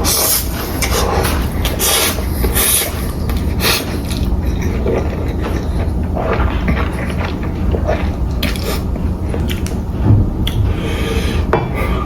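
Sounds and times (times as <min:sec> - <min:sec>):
chewing noodles and dumplings: 0:00.0 - 0:12.0
low hum: 0:00.0 - 0:12.0.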